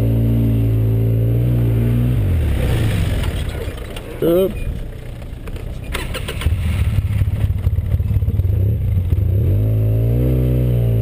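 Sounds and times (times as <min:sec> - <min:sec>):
quad engine idling and revving: 0:00.0 - 0:11.0.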